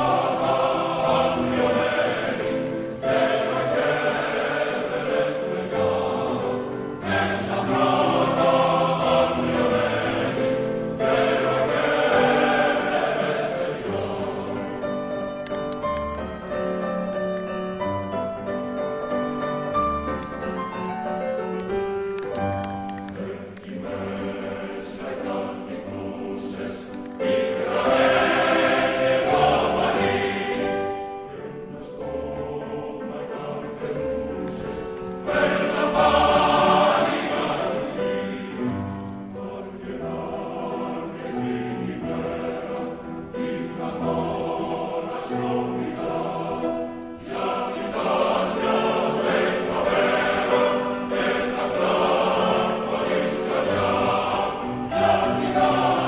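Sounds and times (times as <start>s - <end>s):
choir singing harmonies: 0.0s - 56.0s.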